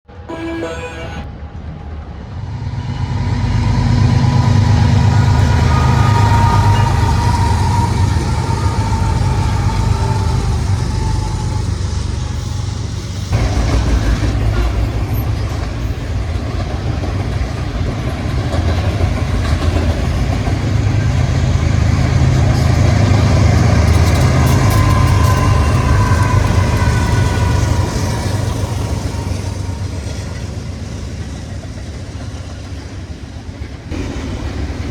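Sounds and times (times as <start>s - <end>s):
locomotive engine rumble: 0.1s - 34.9s
passing train: 0.1s - 34.9s.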